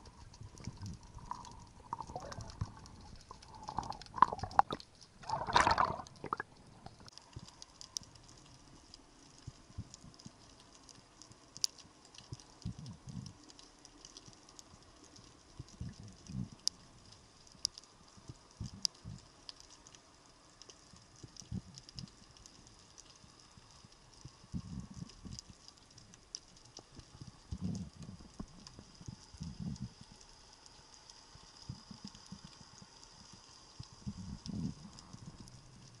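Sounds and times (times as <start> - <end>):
underwater clicks crackling: 0.0 - 36.0.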